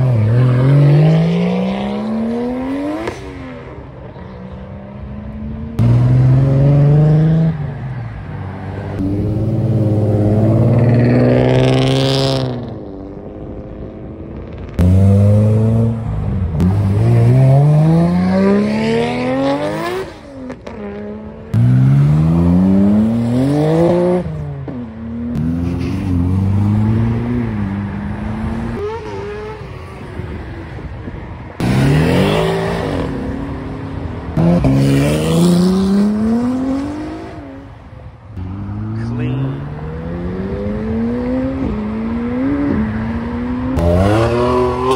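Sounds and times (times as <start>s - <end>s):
sports cars accelerating hard: 0.0s - 37.7s, 38.4s - 44.9s.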